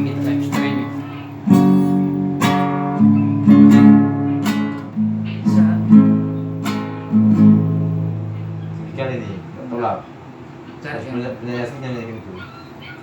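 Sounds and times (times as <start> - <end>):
acoustic guitar strumming: 0.0 - 10.8.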